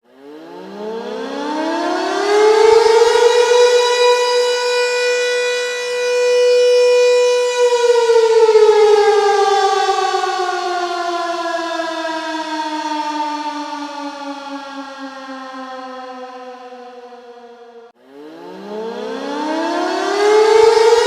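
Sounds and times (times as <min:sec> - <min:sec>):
warning siren wailing: 0:00.1 - 0:21.0.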